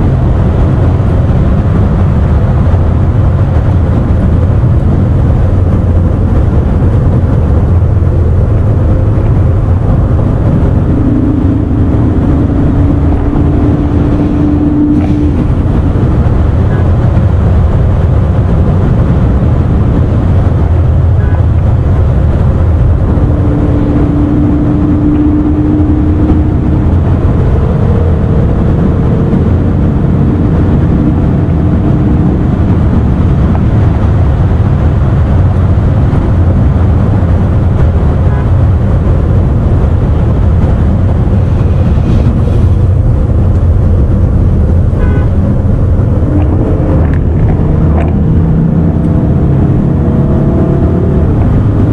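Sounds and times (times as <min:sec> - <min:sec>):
car driving noise: 0:00.0 - 0:51.9.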